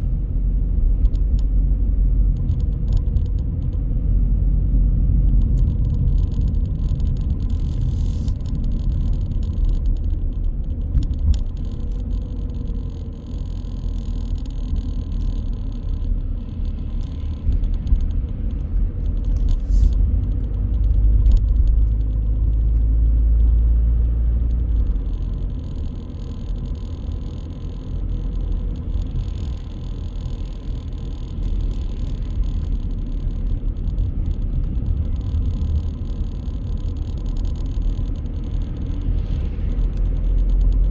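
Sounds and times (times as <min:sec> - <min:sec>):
car engine and road noise: 0:00.0 - 0:40.9
light clicks and rattles: 0:02.2 - 0:03.9, 0:05.0 - 0:40.9.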